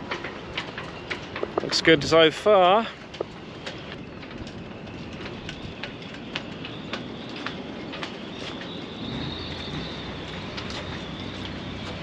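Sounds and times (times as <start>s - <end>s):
footsteps on pontoon deck: 0.0s - 12.0s
wind: 0.0s - 12.0s.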